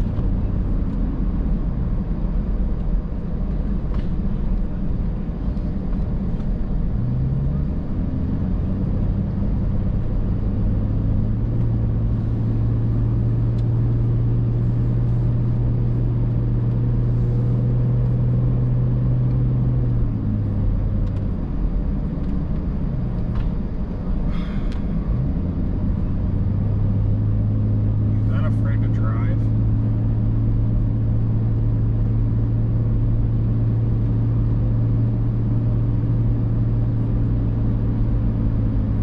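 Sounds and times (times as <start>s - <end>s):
car engine hum: 0.0s - 39.0s
road noise: 0.0s - 39.0s.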